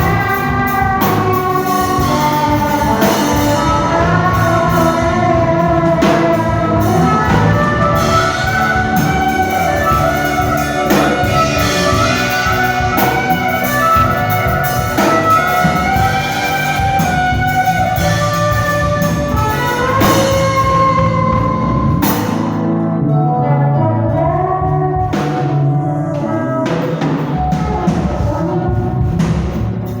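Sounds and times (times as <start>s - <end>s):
drum kit steady beat: 0.0s - 22.7s, 24.7s - 30.0s
band melody lines: 0.0s - 30.0s.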